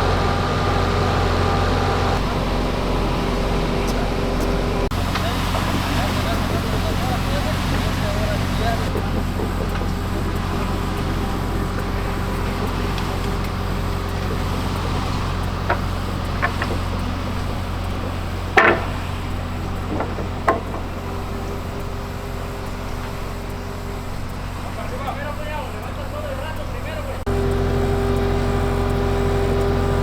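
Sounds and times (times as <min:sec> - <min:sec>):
skid steer engine running: 0:00.0 - 0:30.0.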